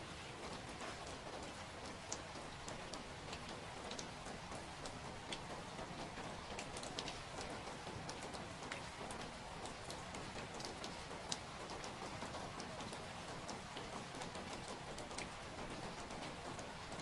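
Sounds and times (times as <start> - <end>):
steady rain falling: 0.0 - 17.0
sharp drip ticks: 0.4 - 17.0.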